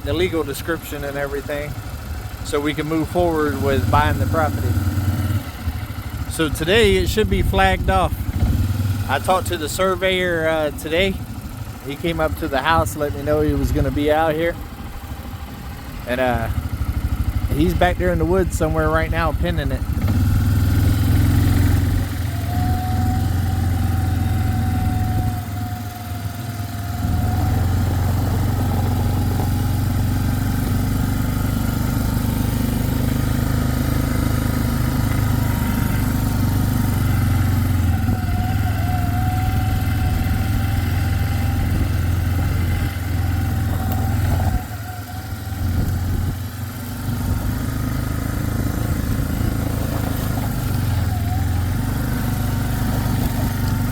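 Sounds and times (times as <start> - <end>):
small vehicle engine running: 0.0 - 53.9.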